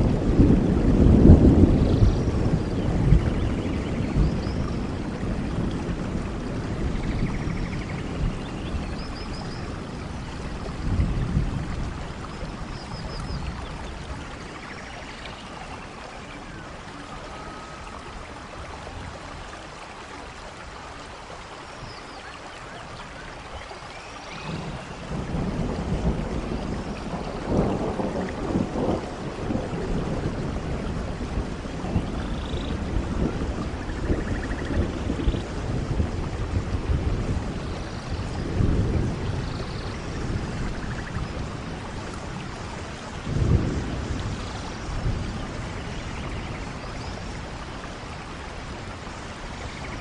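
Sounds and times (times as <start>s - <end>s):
rumbling thunder: 0.0s - 14.8s, 24.3s - 50.0s
steady rain: 0.0s - 50.0s.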